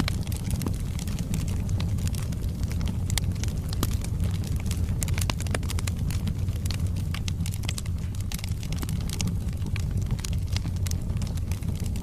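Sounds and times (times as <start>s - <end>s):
burning logs crackling: 0.0s - 12.0s
fire flames rumbling: 0.0s - 12.0s.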